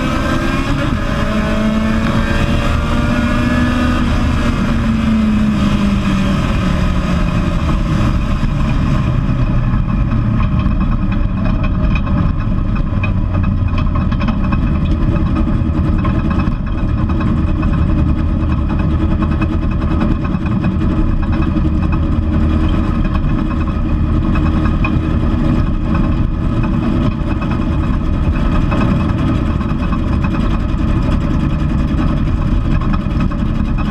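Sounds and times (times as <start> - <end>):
race car engine running hard: 0.0 - 33.9.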